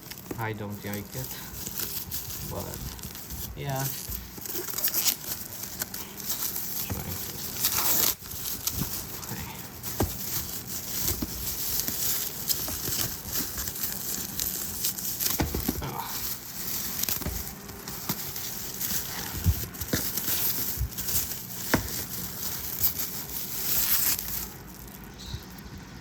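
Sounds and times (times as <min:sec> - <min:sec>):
plastic wrapping crinkling: 0:00.0 - 0:25.8.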